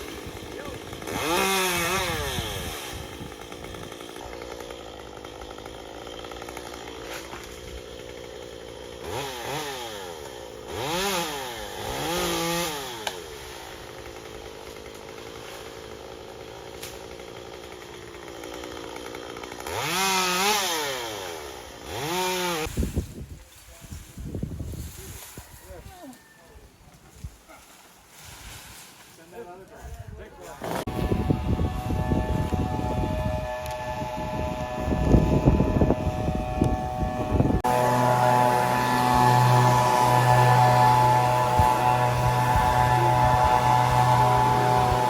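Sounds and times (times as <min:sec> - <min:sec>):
chainsaw engine idling and revving: 0:00.0 - 0:22.7, 0:30.4 - 0:45.0.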